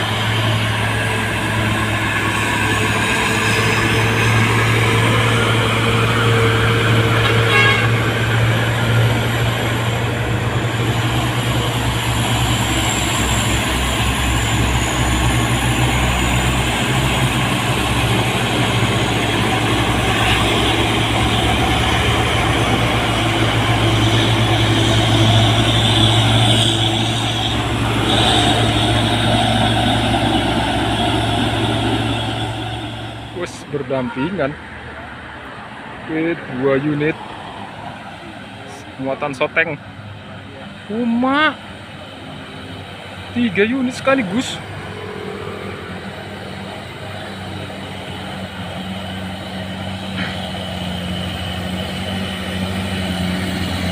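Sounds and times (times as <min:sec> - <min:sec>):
truck diesel engines under load: 0:00.0 - 0:53.9.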